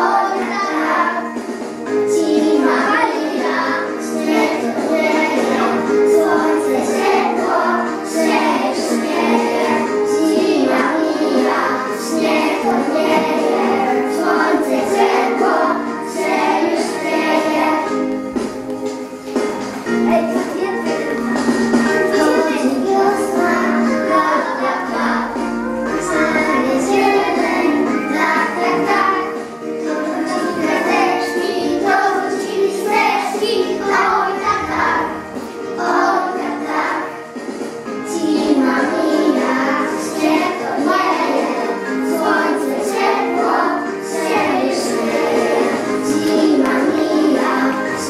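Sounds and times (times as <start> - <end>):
children singing: 0.0 - 48.0
instrumental accompaniment: 0.0 - 48.0.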